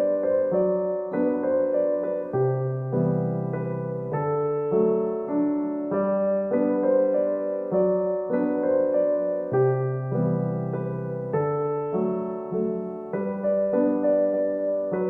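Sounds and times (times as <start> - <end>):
electric piano soft chords: 0.0 - 15.0.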